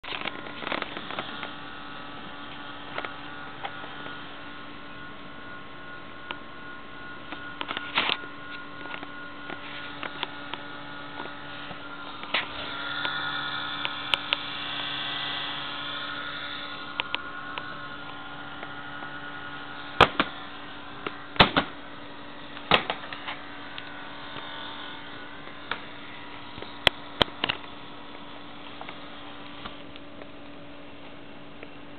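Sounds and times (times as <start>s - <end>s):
high whining tones: 0.0s - 31.9s
laptop electrical hum: 0.0s - 31.9s.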